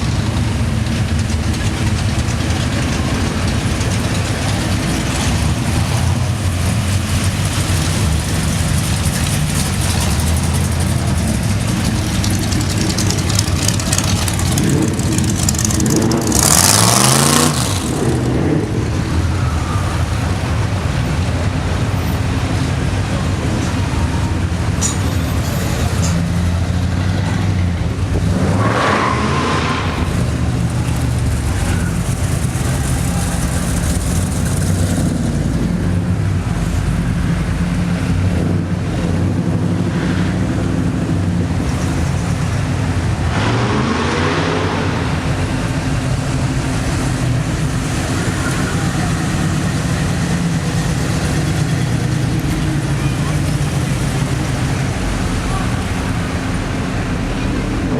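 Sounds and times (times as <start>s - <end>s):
car engines running at low speed: 0.0s - 57.9s.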